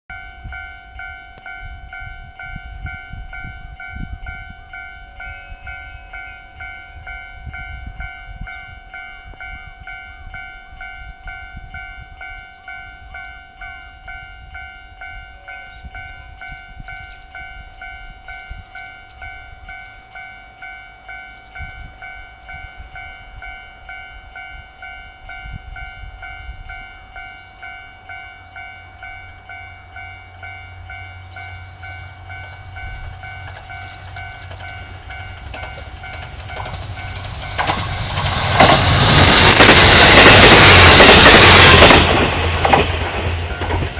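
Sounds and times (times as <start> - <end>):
diesel railcar rumble: 0.1 - 43.9
level-crossing warning bell: 0.1 - 43.9.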